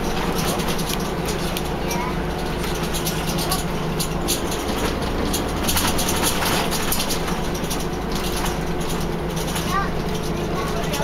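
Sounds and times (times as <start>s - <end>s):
bus engine drone: 0.0s - 11.0s
road noise: 0.0s - 11.0s
light rattling ticks: 0.1s - 11.0s.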